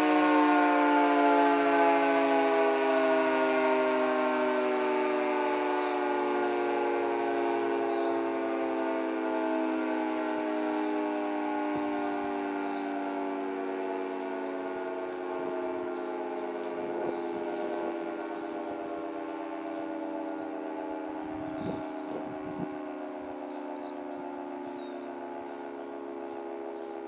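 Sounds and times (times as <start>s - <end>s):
two-tone warning siren: 0.0s - 27.0s.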